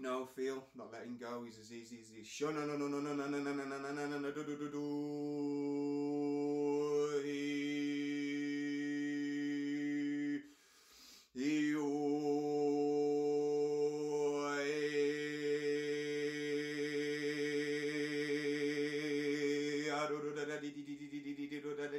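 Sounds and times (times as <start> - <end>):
man chanting wordless vocalisations: 0.0 - 10.4, 11.4 - 21.9.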